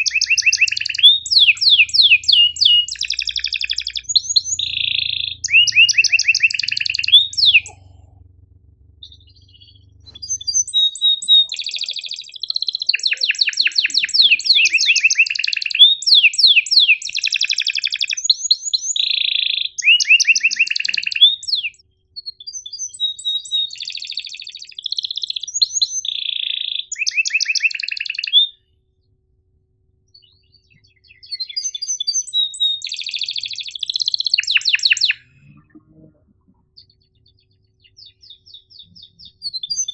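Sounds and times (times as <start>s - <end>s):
canary singing trills: 0.0s - 28.7s, 30.1s - 39.9s.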